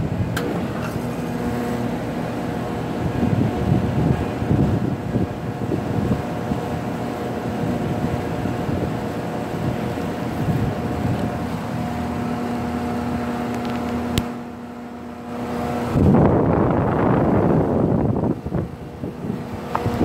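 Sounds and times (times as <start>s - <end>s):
air conditioning hum: 0.0s - 20.0s
condenser fan air rush: 0.0s - 20.0s.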